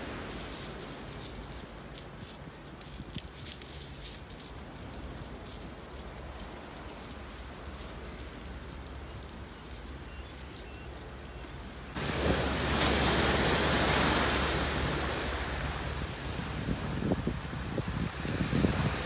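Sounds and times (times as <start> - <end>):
sea waves washing over concrete: 0.0 - 19.0
wind buffeting microphone: 0.0 - 19.0.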